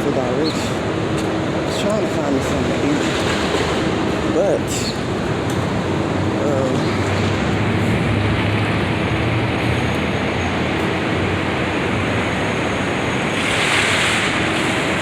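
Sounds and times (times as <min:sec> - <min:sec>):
traffic: 0:00.0 - 0:15.0.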